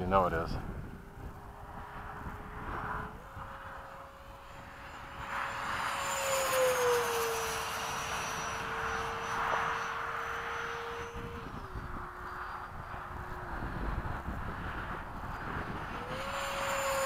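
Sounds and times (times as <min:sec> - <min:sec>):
electric ducted fan whining: 0:00.0 - 0:17.0.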